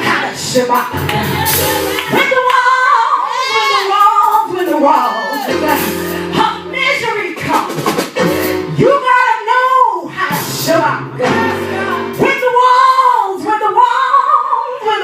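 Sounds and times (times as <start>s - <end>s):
instrumental backing: 0.0s - 14.1s
person singing gospel: 0.0s - 15.0s.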